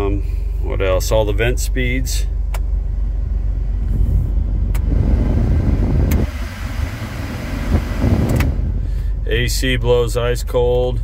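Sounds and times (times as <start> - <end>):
blower fan rushing air: 0.0 - 10.6
car engine idling: 0.0 - 11.0.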